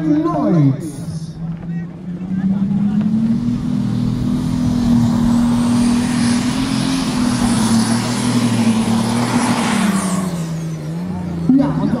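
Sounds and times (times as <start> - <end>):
tractor engine at full throttle: 1.4 - 12.0.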